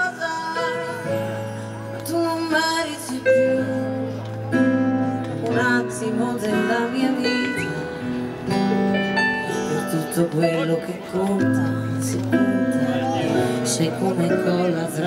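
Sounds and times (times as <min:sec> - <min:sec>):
woman singing: 0:00.0 - 0:04.2, 0:05.3 - 0:15.0
electric keyboard: 0:00.0 - 0:15.0.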